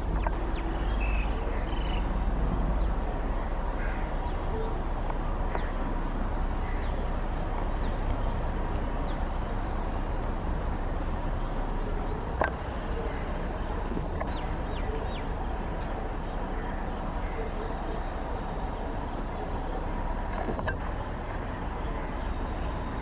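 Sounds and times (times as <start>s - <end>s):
birds chirping: 0.0s - 23.0s
outdoor background noise: 0.0s - 23.0s.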